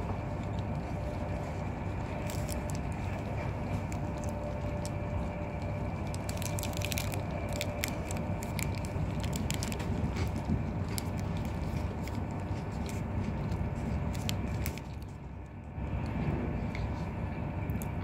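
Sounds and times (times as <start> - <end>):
train coach rumbling on rails: 0.0 - 18.0.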